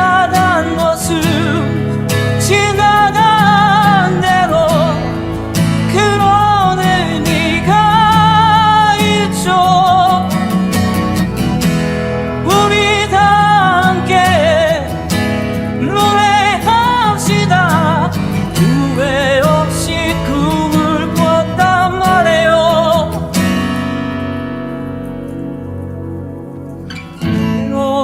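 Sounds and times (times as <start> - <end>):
man singing with vibrato: 0.0 - 11.5, 12.2 - 23.9, 27.4 - 28.0
acoustic guitar: 0.0 - 28.0.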